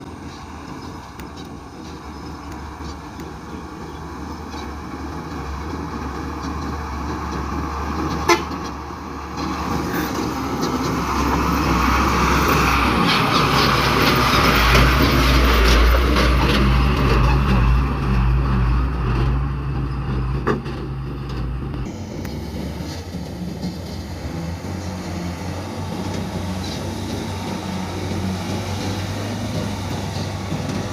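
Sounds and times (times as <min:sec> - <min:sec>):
dump truck diesel engine: 0:00.0 - 0:30.9.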